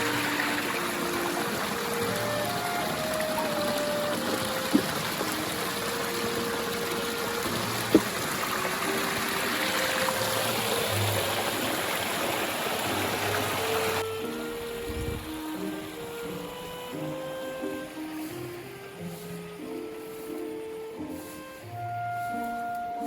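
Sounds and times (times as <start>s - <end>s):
light background music: 0.0s - 23.0s
stream water flowing: 0.0s - 23.0s.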